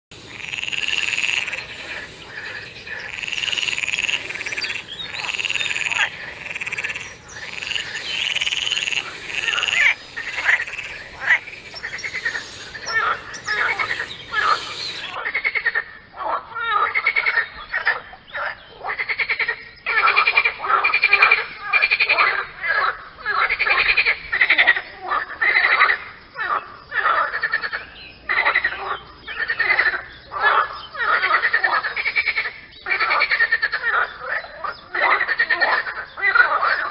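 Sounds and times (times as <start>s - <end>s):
frogs croaking: 0.1s - 36.9s.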